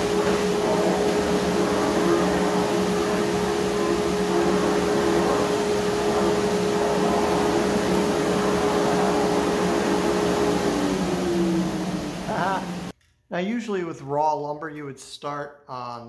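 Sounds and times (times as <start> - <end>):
saw blade spinning down: 0.0 - 12.9
table saw running: 0.0 - 12.9.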